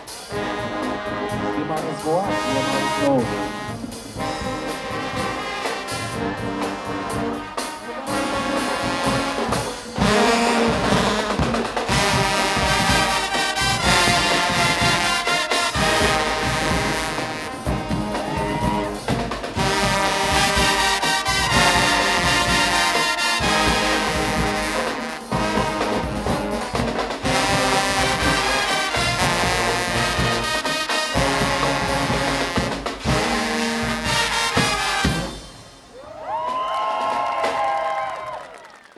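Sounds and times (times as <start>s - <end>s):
brass band carnival music: 0.0s - 38.0s.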